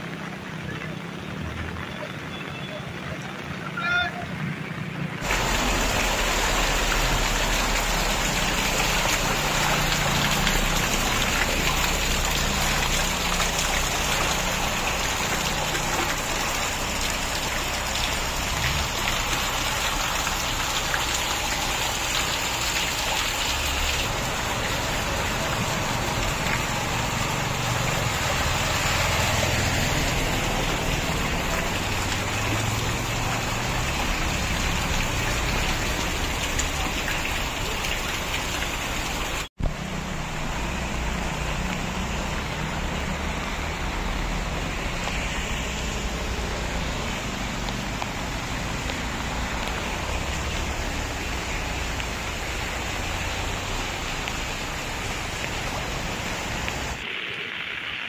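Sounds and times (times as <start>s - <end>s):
heavy rain on street: 0.0s - 58.0s.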